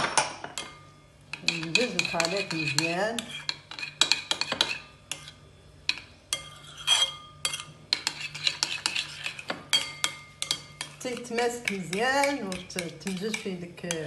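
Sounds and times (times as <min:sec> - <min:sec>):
utensil stirring in a bowl: 0:00.6 - 0:14.0.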